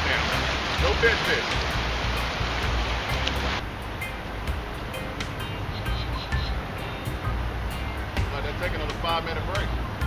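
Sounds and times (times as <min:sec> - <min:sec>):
music with ticking beat: 0:01.4 - 0:10.0.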